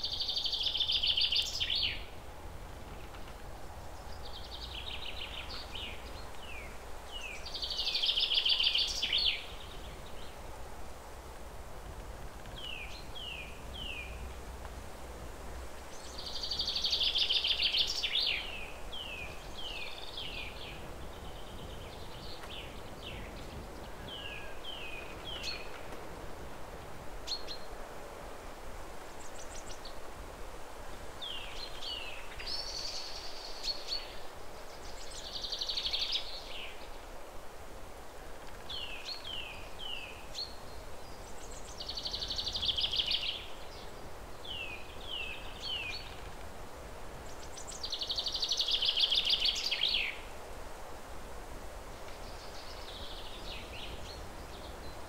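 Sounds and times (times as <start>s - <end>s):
steady low hiss: 0.0s - 55.0s.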